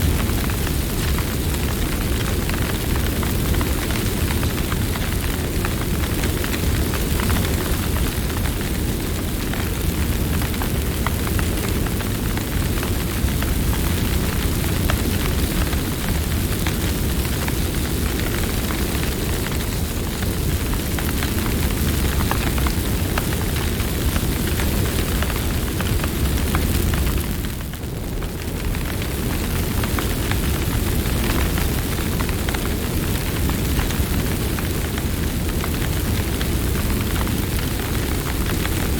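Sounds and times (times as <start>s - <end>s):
campfire flames rumbling: 0.0s - 38.9s
fire crackles and pops: 0.0s - 38.9s.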